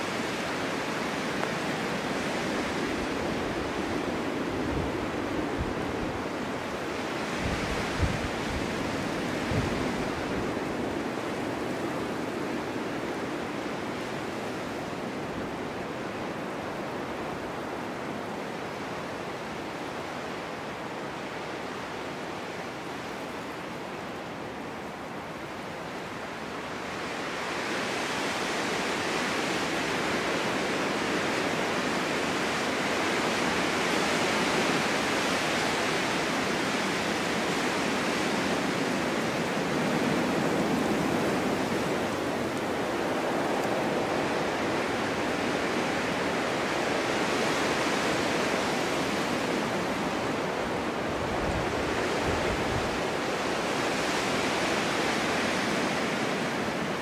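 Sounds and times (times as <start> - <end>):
wind gusting: 0.0 - 18.2, 26.0 - 57.0.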